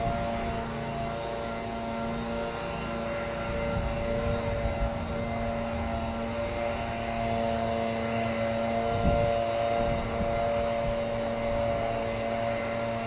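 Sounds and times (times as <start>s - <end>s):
diesel locomotive engine droning: 0.0s - 13.0s.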